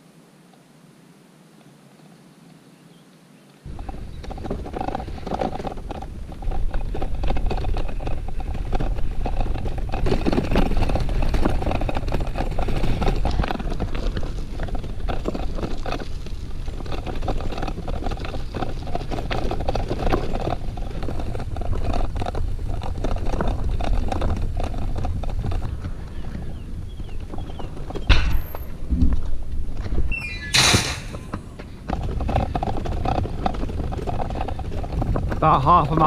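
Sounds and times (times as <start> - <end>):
bicycle tyres rumbling on rough ground: 3.6 - 36.0
bike rattles and knocks: 3.7 - 36.0
wind buffeting microphone: 3.7 - 36.0.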